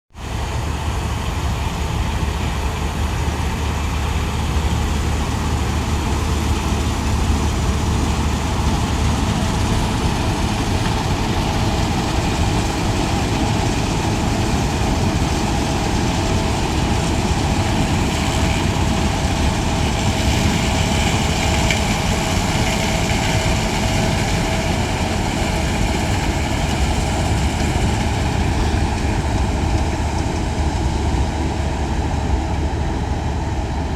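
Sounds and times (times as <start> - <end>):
combine harvester engine drone: 0.1 - 33.9
machinery whine: 0.1 - 33.9.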